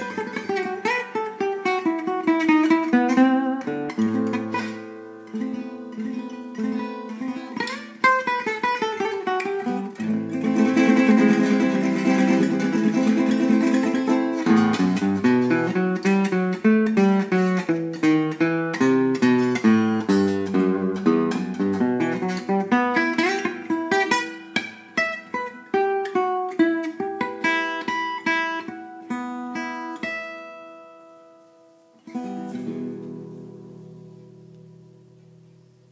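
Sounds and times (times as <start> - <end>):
acoustic guitar playing: 0.0 - 35.9.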